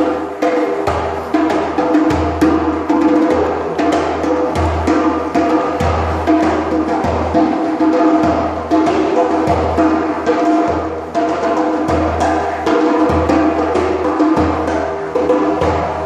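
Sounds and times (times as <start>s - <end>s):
djembe drum strikes: 0.0s - 16.0s.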